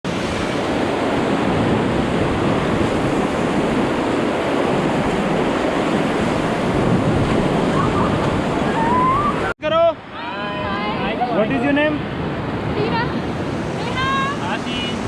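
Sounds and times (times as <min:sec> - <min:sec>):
river water rushing: 0:00.1 - 0:15.0.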